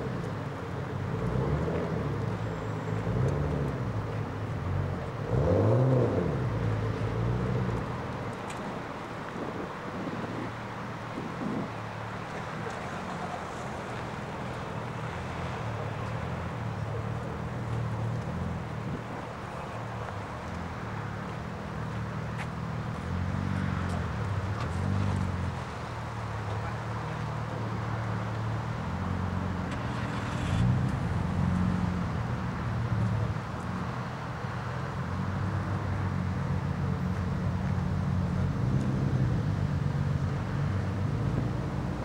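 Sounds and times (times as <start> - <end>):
car engine rumbling and revving: 0.0 - 42.0.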